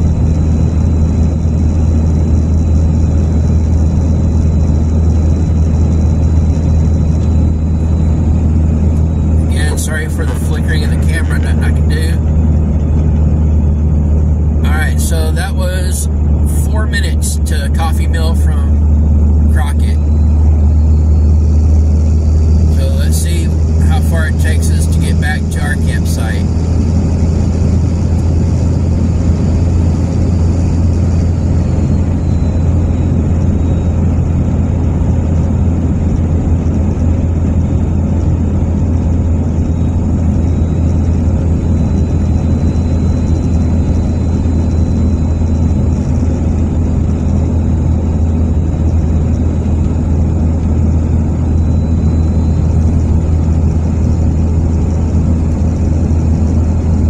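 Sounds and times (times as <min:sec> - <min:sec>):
car road and engine drone: 0:00.0 - 0:57.0.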